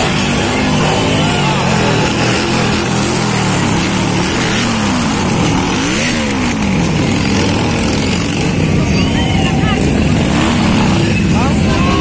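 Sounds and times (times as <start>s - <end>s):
motorcycle engine revving: 0.0s - 12.0s
motorcycles passing slowly: 0.0s - 12.0s.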